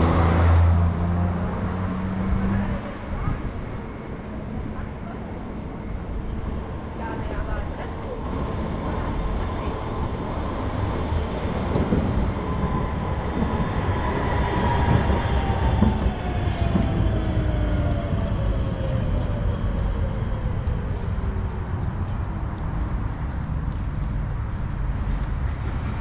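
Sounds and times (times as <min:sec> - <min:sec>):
tram rumbling past: 0:00.0 - 0:26.0.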